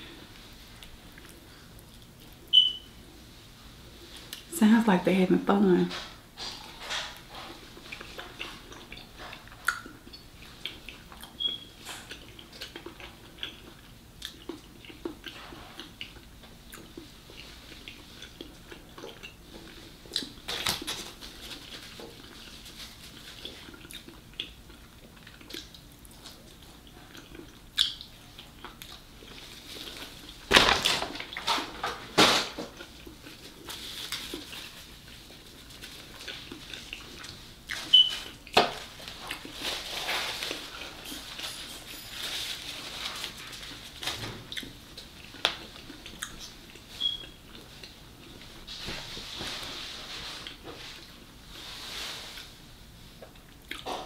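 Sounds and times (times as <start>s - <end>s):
chewing and crunching fried shrimp: 0.0s - 2.8s, 5.9s - 48.6s, 50.2s - 54.0s.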